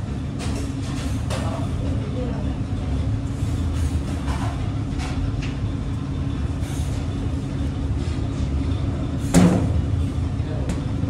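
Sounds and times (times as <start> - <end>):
low machine rumble: 0.0 - 11.0.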